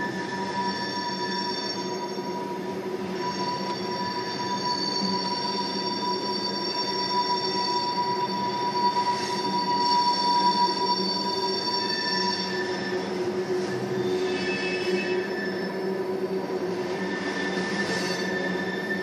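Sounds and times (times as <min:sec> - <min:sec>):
train wheels squealing: 0:00.0 - 0:19.0.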